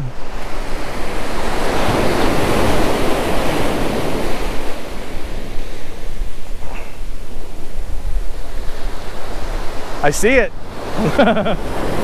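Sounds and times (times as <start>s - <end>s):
ocean surf breaking: 0.0s - 12.0s
wind rumbling on microphone: 0.0s - 12.0s.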